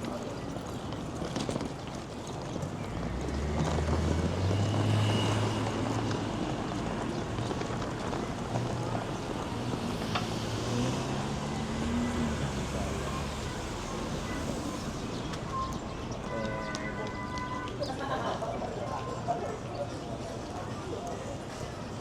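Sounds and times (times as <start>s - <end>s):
city noise: 0.0s - 22.0s
vehicle engine hum: 2.5s - 20.4s.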